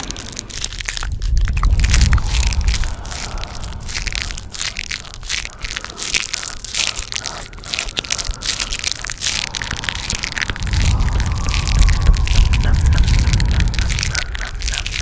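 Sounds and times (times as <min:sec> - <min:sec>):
crunching and crackling: 0:00.0 - 0:15.0.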